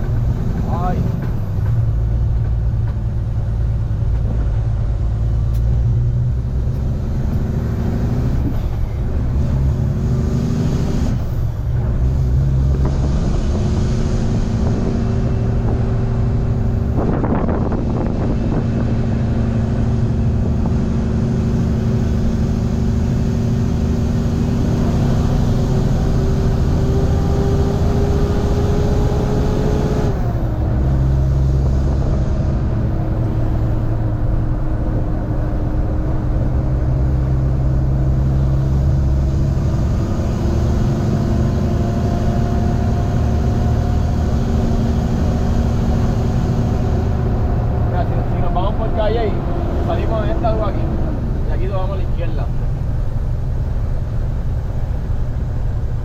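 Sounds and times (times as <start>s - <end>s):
truck diesel engine accelerating: 0.0s - 56.0s.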